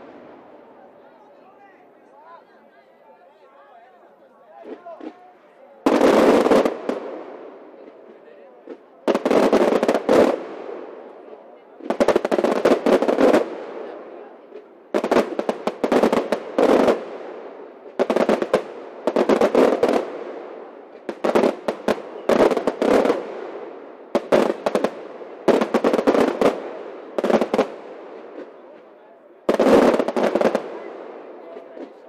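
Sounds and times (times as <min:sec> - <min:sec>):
fireworks bangs and crackles: 0:04.4 - 0:32.0.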